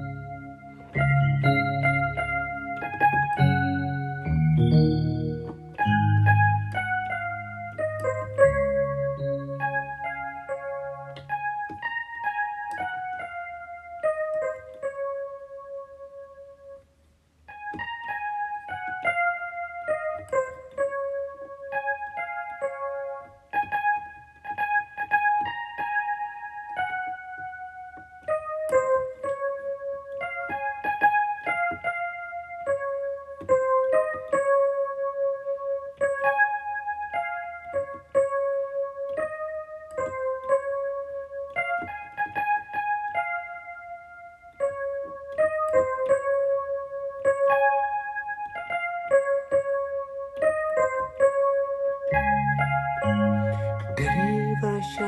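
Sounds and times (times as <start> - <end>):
keyboard piano melody: 0.0 - 55.0.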